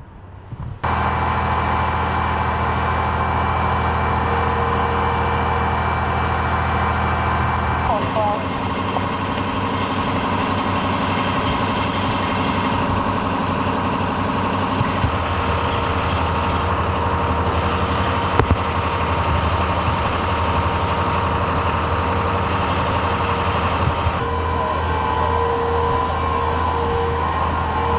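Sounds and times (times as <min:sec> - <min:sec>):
large vehicle engine idling: 0:00.3 - 0:27.9.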